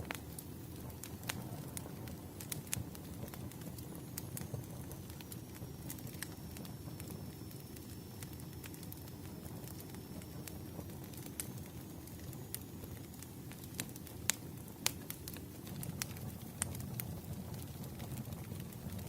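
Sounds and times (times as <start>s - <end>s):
firewood crackling and popping: 0.0s - 19.0s
flames rushing: 0.0s - 19.0s.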